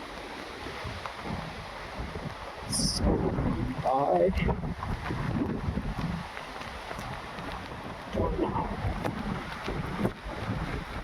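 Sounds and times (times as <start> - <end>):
steady outdoor hiss: 0.0 - 11.0
wind buffeting microphone: 0.0 - 11.0.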